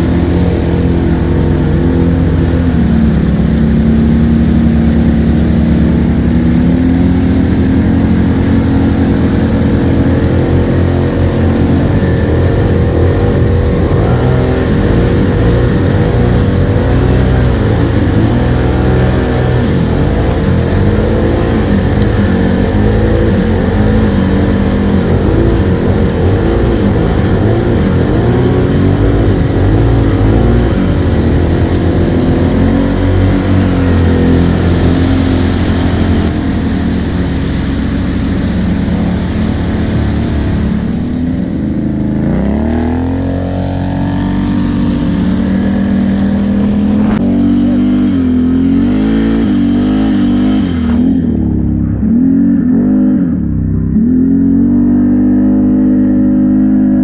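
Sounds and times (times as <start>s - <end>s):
water splashing: 0.0s - 55.8s
engine revving under throttle: 0.0s - 57.0s.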